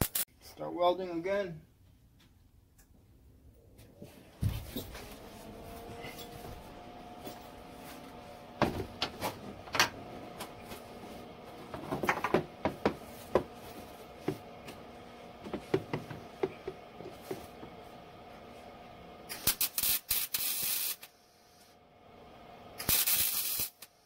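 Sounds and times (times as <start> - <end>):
machine hum: 2.8 - 20.2, 21.0 - 24.0.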